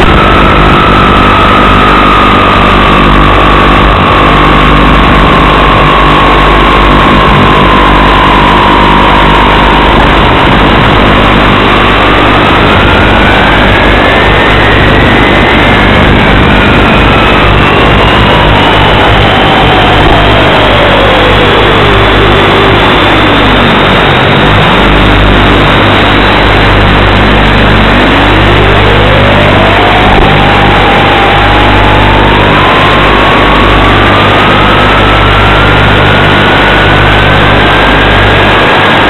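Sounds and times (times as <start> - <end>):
loud steady hiss: 0.0 - 39.0.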